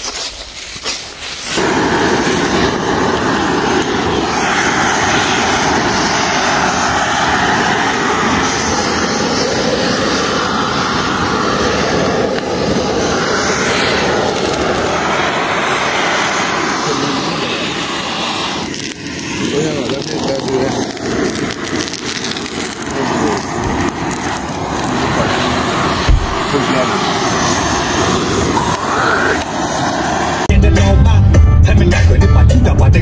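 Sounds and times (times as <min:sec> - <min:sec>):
blowtorches roaring: 0:00.0 - 0:30.5.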